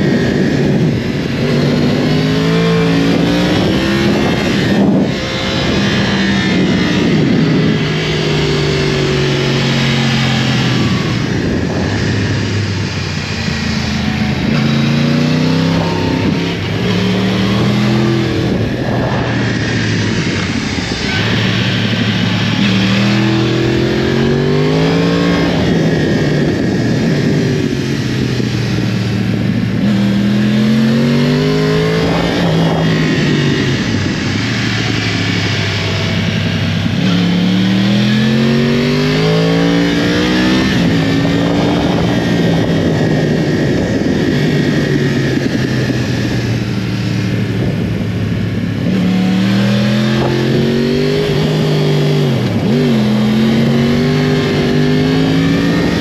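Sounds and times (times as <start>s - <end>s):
motorcycle engine revving: 0.0s - 56.0s
steady rushing noise: 0.0s - 56.0s.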